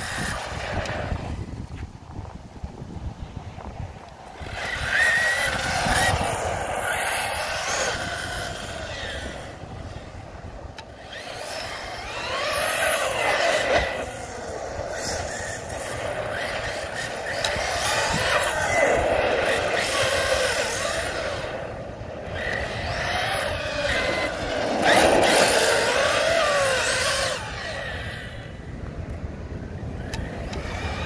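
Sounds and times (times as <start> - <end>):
rc truck electric motor whining: 0.0 - 1.5, 4.2 - 28.7, 29.8 - 31.0.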